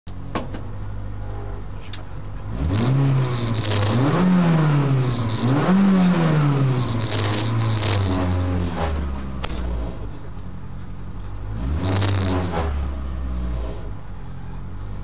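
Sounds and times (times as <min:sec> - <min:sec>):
car engine revving: 0:01.0 - 0:15.0.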